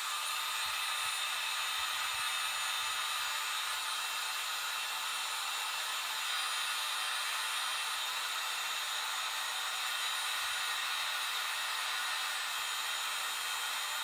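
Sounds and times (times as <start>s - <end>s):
heat gun blowing hot air: 0.0s - 14.0s.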